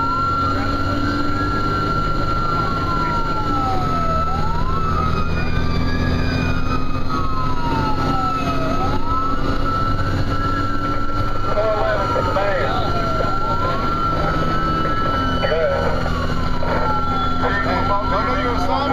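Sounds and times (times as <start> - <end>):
fire engine siren wailing: 0.0 - 18.9
truck engine drone: 0.0 - 18.9.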